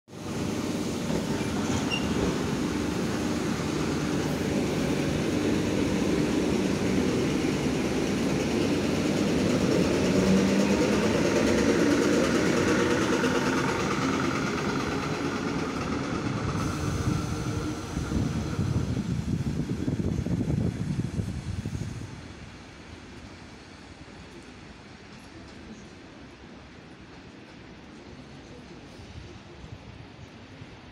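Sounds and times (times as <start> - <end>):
train wheels on rails: 0.1 - 30.9.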